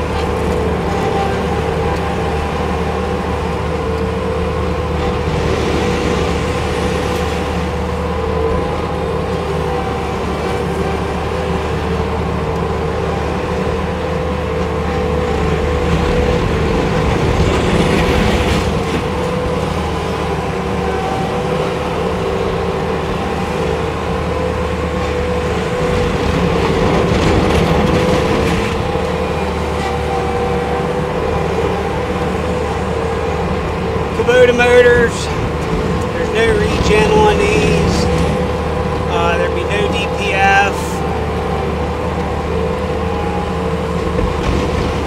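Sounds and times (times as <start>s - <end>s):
diesel loader engine running: 0.0s - 45.0s
loader driving across gravel: 0.0s - 45.0s.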